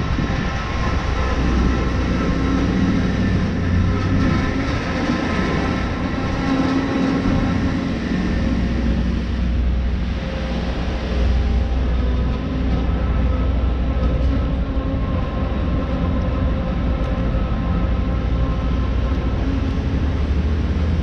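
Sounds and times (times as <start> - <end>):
large engine rumbling: 0.0 - 21.0.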